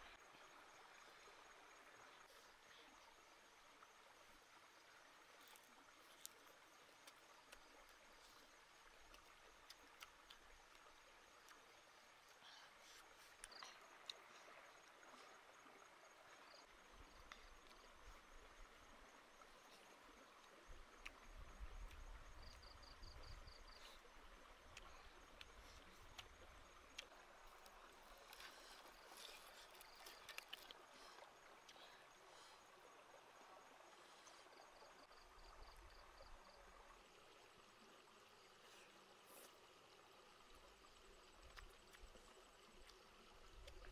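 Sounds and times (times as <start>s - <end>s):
stream running: 0.0s - 43.9s.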